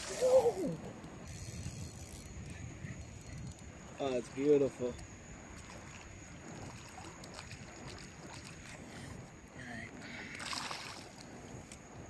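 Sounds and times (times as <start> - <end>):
seawater moving quietly: 0.0 - 12.0.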